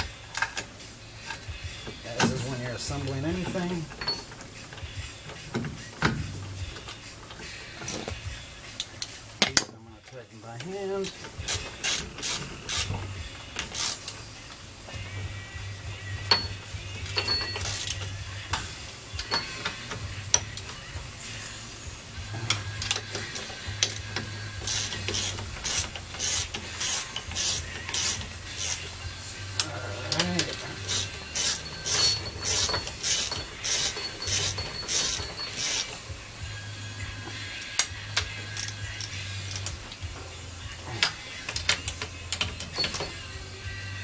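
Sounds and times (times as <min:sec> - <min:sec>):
ratchet wrench clicking: 0:02.2 - 0:10.0, 0:11.0 - 0:44.0.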